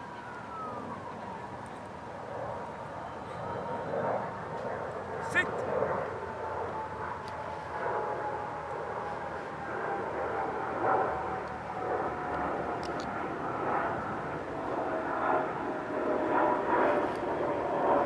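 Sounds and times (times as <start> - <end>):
aircraft flying past: 0.0 - 18.0.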